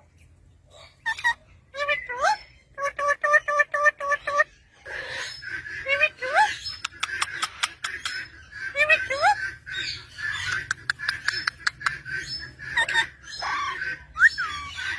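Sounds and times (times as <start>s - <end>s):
parrot squawks: 1.0s - 14.9s.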